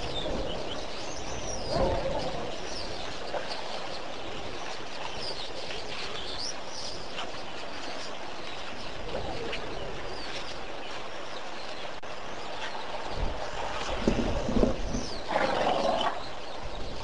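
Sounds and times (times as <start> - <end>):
outdoor ambience hiss: 0.0 - 17.0
wild birds chirping: 0.0 - 17.0.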